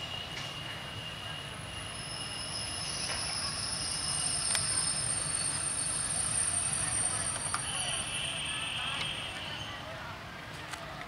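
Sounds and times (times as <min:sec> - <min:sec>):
wheel and brake squeal: 0:00.0 - 0:09.8
train low rumble: 0:00.0 - 0:10.5.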